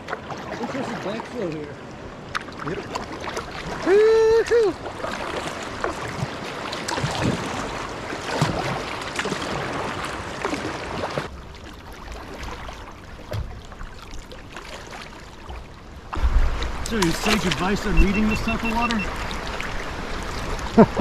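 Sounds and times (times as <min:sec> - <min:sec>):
river water rushing: 0:00.0 - 0:13.2, 0:13.9 - 0:21.0
kayak paddle splashing: 0:00.0 - 0:21.0.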